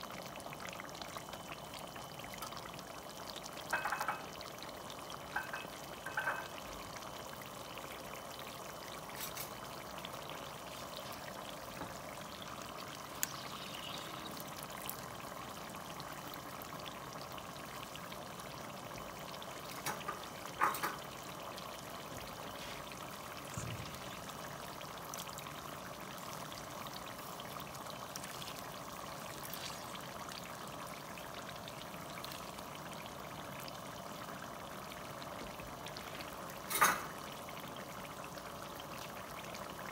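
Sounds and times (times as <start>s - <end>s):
sauce bubbling in pot: 0.0s - 39.9s.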